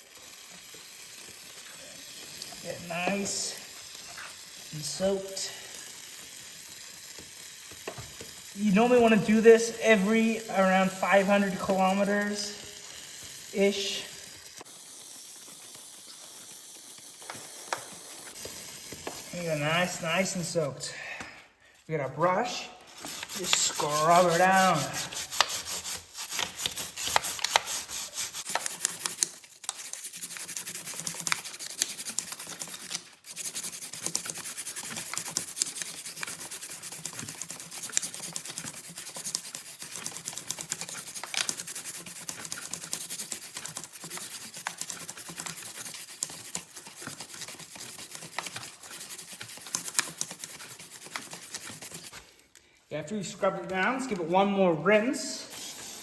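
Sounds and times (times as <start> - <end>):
brush scrubbing chain: 0.0 - 20.7, 22.1 - 52.4.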